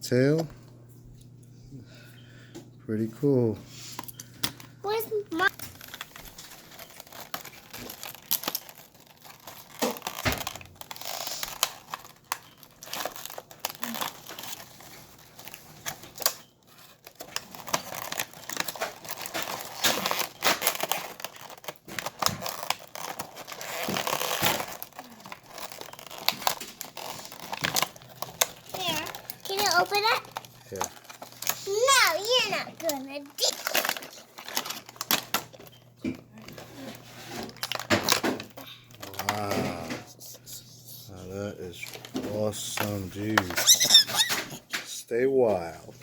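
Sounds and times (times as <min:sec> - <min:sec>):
plastic and cardboard crinkling: 0:03.7 - 0:46.0.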